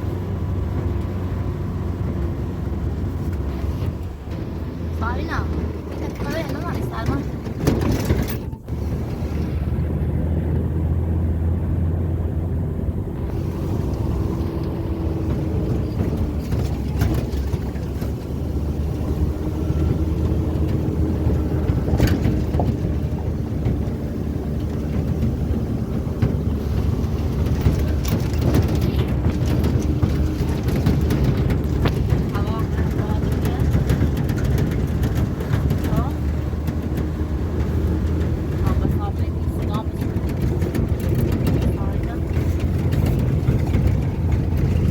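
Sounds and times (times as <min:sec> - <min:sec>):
road noise: 0:00.0 - 0:44.9
vehicle engine hum: 0:00.0 - 0:44.9.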